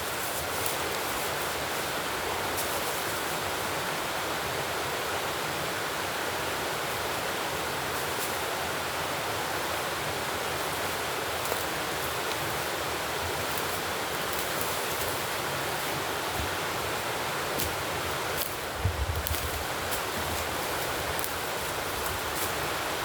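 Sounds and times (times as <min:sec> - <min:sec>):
rushing water hiss: 0:00.0 - 0:23.0.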